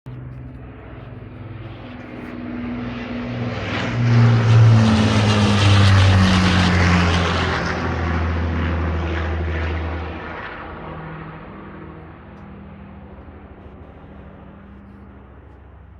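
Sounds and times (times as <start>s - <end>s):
propeller aircraft engines droning: 0.1s - 15.9s.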